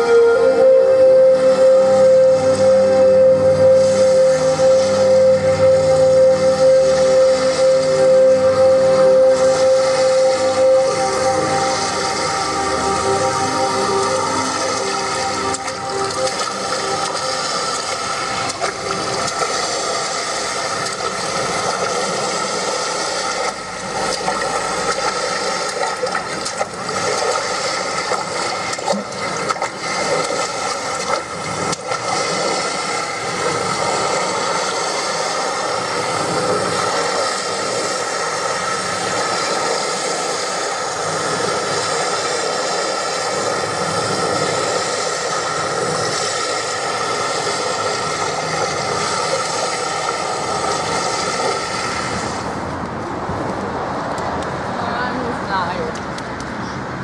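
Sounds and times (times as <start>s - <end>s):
steady held tones: 0.0s - 52.9s
rushing hiss: 6.6s - 52.8s.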